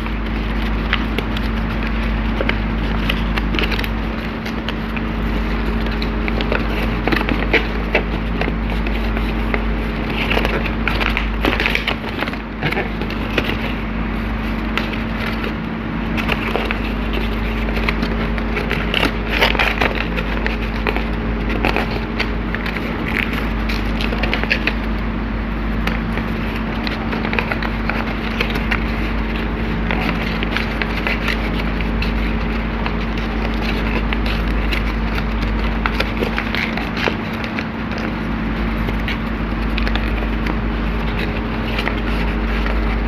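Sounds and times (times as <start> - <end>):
paper crinkling: 0.0 - 43.0
steady low hum: 0.0 - 43.0.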